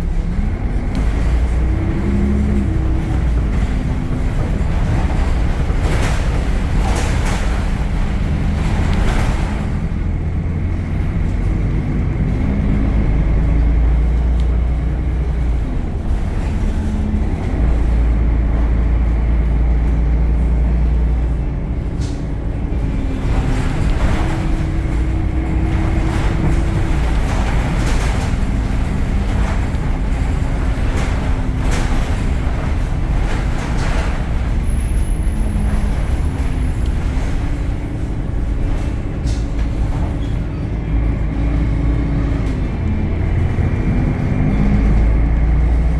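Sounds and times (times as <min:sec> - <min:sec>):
bus diesel engine rumble: 0:00.0 - 0:45.9
knocks and rattles: 0:00.0 - 0:45.9.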